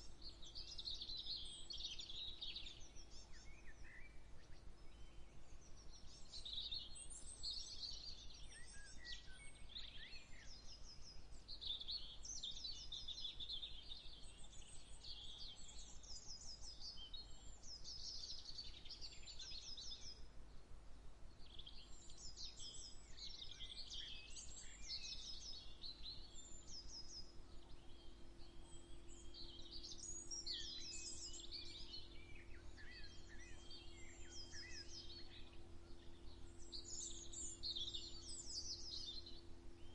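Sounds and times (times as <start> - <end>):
faint low hum: 0.0 - 39.9
songbirds singing: 0.0 - 39.9.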